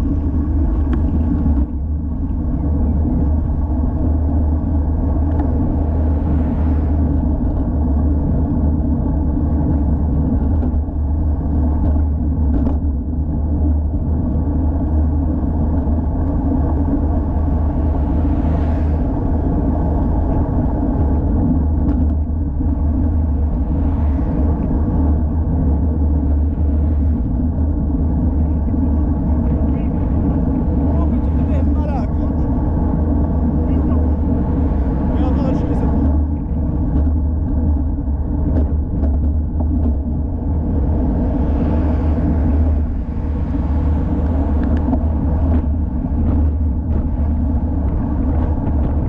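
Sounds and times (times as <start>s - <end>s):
bicycle road noise: 0.0s - 49.0s
wind buffeting microphone: 0.0s - 49.0s.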